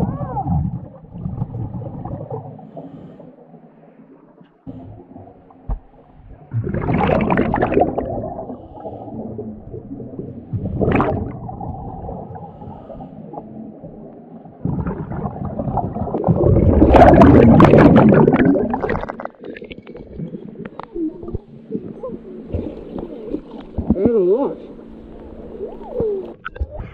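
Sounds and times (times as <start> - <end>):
muffled underwater rumble: 0.0 - 26.9
underwater bubbles rushing: 0.0 - 26.9.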